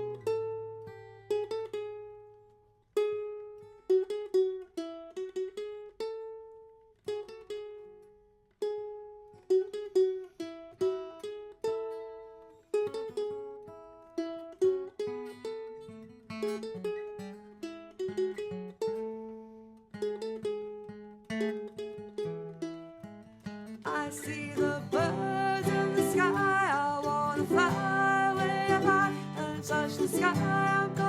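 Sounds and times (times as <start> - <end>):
plucked string instrument solo: 0.0 - 31.0.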